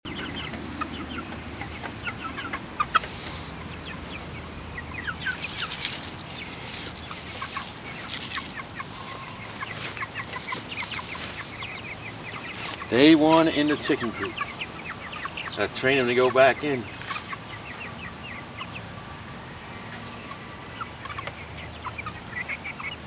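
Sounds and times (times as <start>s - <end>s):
chickens cheeping and clucking: 0.0s - 23.0s.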